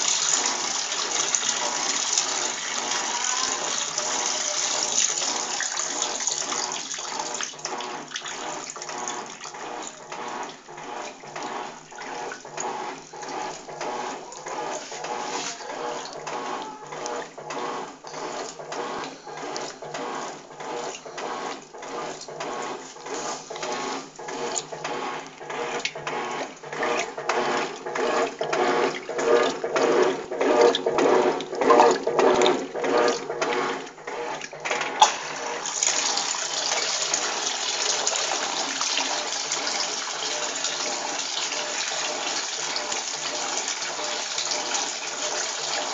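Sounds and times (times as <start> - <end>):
washing machine agitating clothes: 0.0 - 45.9.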